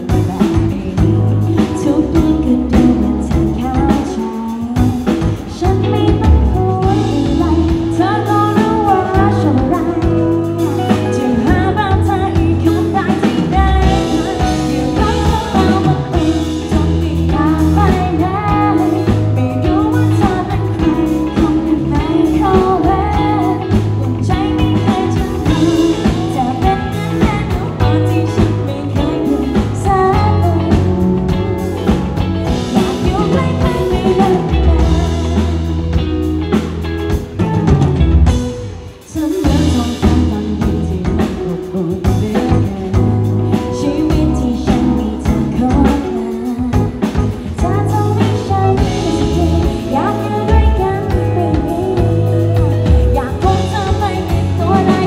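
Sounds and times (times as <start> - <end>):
woman singing into microphone: 0.0 - 36.8, 38.3 - 55.0
drum kit: 0.0 - 55.0
electric guitar: 0.0 - 55.0.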